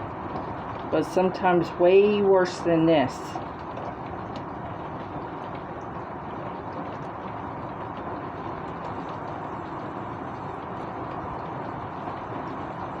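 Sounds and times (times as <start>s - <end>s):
raindrops ticking: 0.0s - 13.0s
steady rain: 0.0s - 13.0s.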